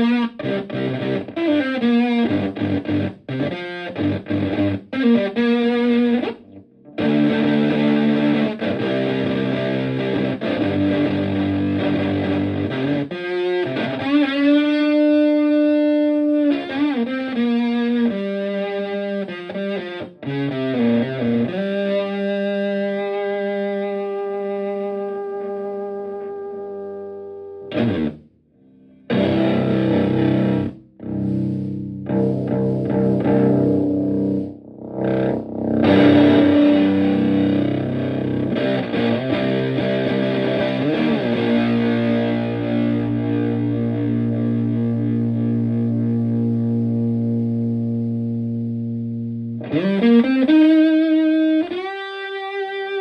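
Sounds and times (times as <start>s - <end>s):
fuzz electric guitar: 0.0s - 53.0s.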